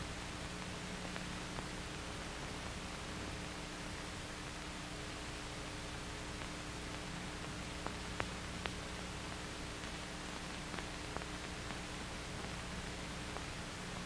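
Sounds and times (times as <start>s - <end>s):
faint crackle clicks: 0.0s - 14.0s
film soundtrack hiss and hum: 0.0s - 14.0s.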